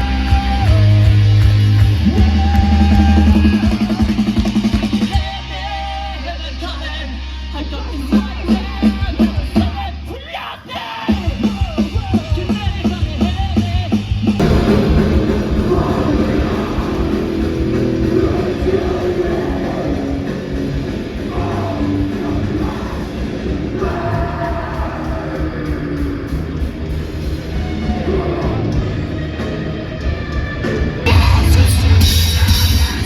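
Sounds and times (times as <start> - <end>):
person singing: 0.0 - 1.4, 2.0 - 26.6, 27.5 - 29.0, 31.0 - 33.0
chugging guitar and drum hits: 0.0 - 5.5, 11.1 - 33.0
heavy rock band playing live: 0.0 - 33.0.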